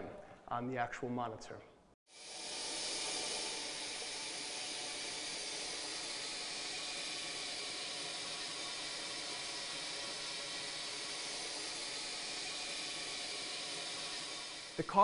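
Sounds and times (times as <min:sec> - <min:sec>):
gas hissing through tubing: 0:02.1 - 0:15.0.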